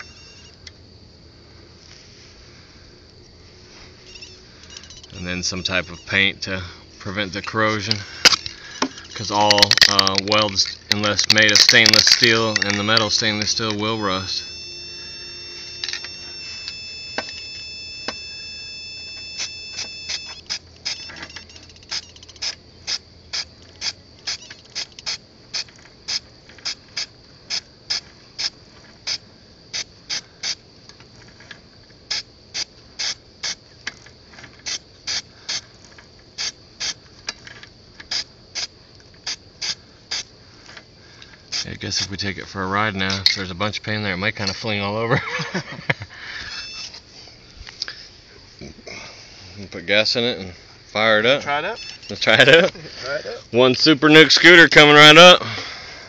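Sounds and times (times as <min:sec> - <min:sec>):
steady high whine: 0:00.0 - 0:56.0.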